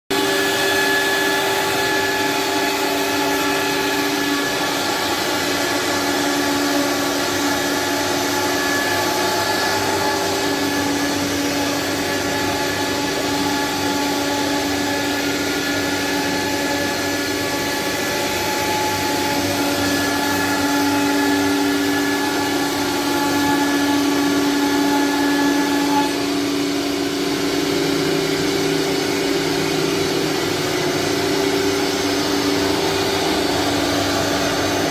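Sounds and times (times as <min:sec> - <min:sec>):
wood router whining: 0:00.1 - 0:34.9.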